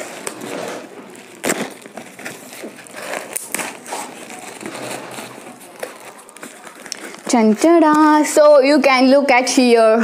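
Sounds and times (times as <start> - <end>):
cardboard tearing and scraping: 0.0 - 8.5.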